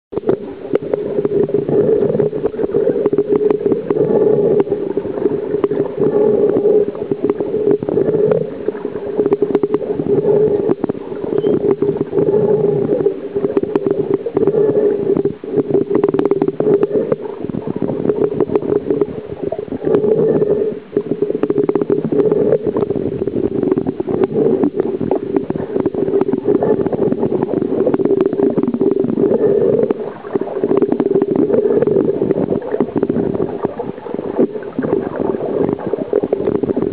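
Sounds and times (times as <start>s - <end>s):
muffled underwater water rushing: 0.1s - 36.9s
underwater clicks and crackles: 0.1s - 36.9s.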